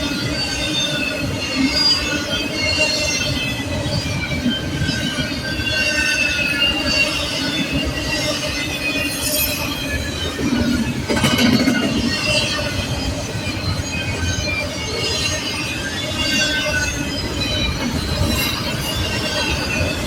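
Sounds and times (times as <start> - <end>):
freight train rumbling: 0.0 - 20.0
train wheels squealing: 0.0 - 20.0.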